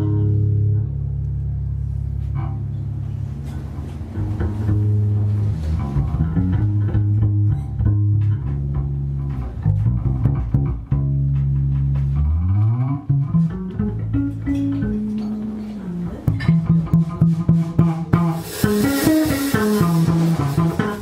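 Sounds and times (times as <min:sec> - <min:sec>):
bass held low notes: 0:00.0 - 0:21.0
plucked strings: 0:00.0 - 0:21.0.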